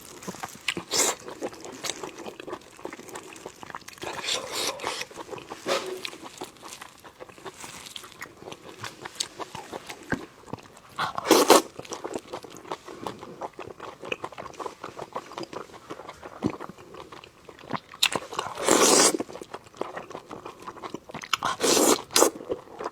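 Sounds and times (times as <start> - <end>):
close chewing and crunching: 0.0 - 22.9.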